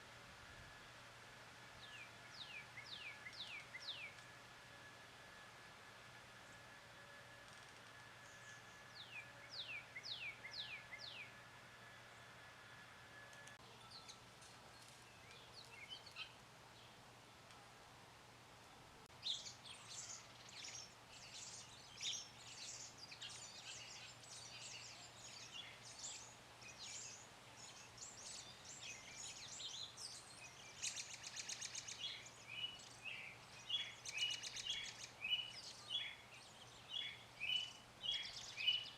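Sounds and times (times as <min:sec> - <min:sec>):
songbirds singing: 0:00.7 - 0:17.7, 0:19.0 - 0:38.9.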